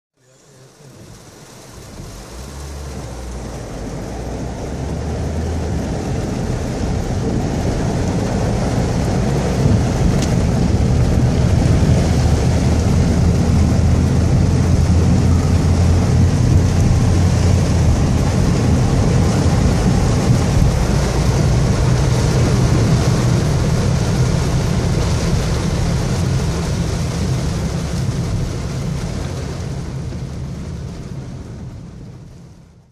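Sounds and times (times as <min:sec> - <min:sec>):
torrential rain: 0:00.2 - 0:32.9
rushing floodwater: 0:00.3 - 0:32.8.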